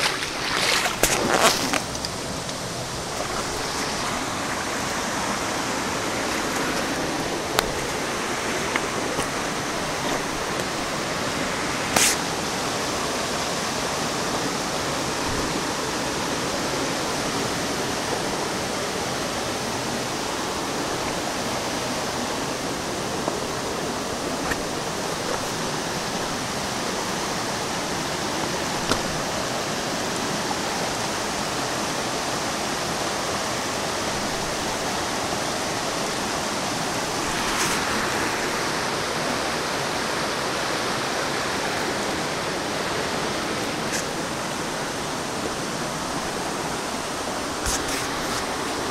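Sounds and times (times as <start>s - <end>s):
stream water rushing: 0.0s - 48.9s.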